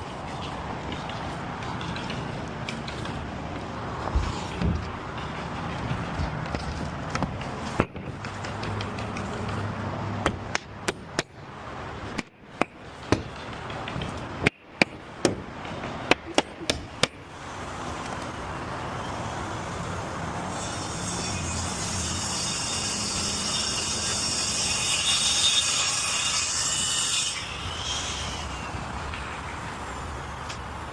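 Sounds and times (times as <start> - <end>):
steady background noise: 0.0 - 30.9.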